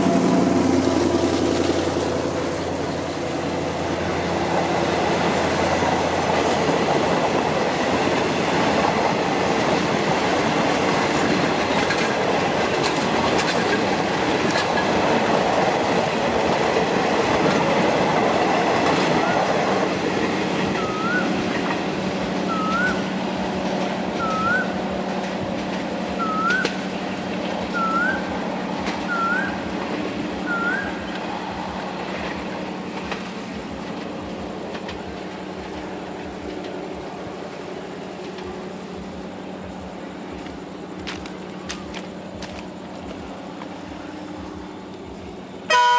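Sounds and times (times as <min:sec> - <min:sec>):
distant steady drone: 0:00.0 - 0:17.6, 0:18.2 - 0:45.9
train wheels clattering on rails: 0:00.0 - 0:45.8.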